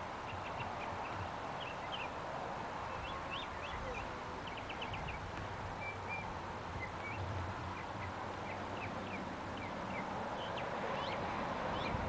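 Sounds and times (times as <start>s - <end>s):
low hum and hiss: 0.0s - 12.0s
small birds chirping: 0.0s - 12.0s.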